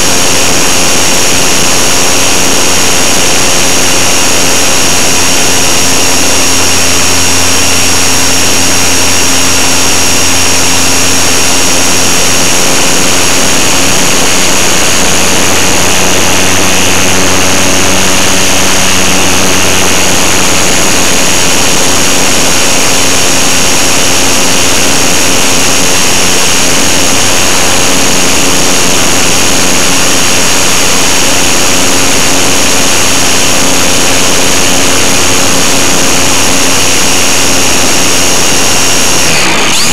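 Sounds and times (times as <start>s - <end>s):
electric motor high whine: 0.0s - 39.9s.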